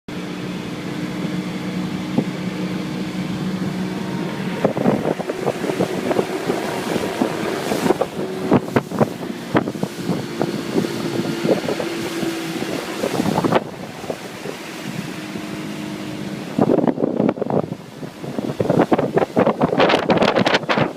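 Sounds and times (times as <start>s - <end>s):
motorboat engine running: 0.1s - 20.9s
wind noise on microphone: 0.2s - 20.9s.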